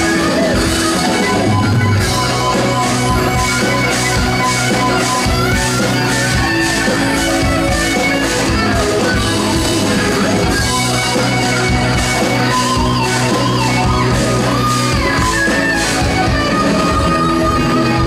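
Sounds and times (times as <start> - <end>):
electric guitar lead with bent notes: 0.0 - 18.0
live rock band: 0.0 - 18.0.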